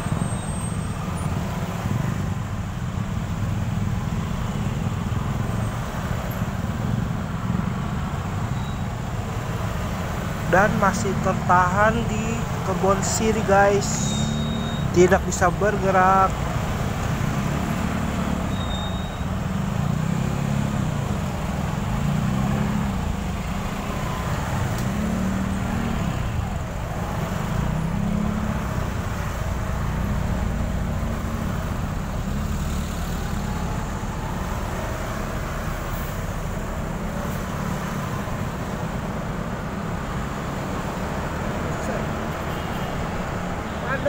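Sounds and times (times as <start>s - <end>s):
vehicle engines idling: 0.0s - 44.0s.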